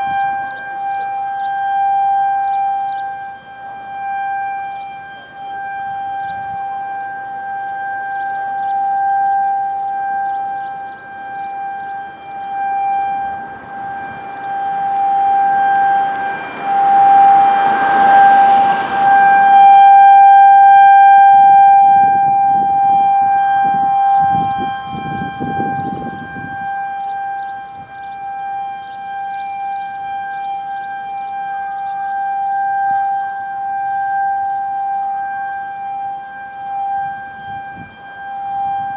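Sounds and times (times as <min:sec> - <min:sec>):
tornado warning siren: 0:00.0 - 0:38.9.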